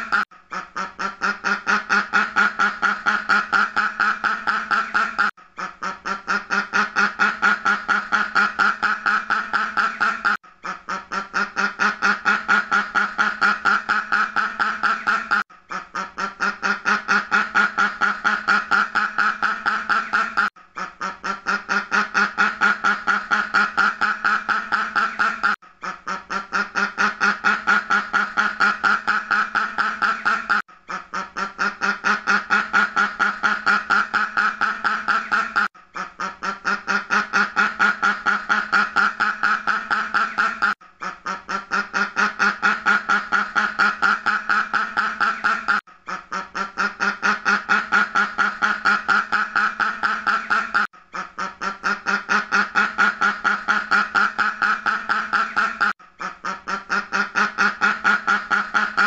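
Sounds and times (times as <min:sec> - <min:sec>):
duck quacking: 0:00.0 - 0:59.0.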